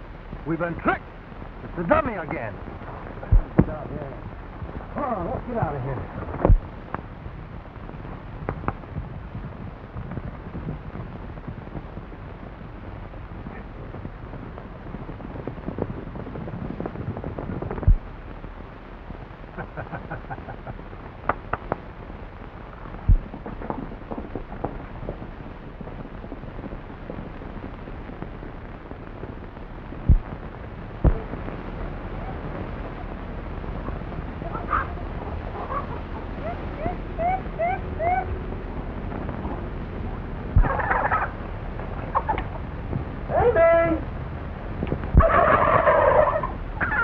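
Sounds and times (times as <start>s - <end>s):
film soundtrack hiss and rumble: 0.0s - 47.0s
horses galloping: 1.6s - 47.0s.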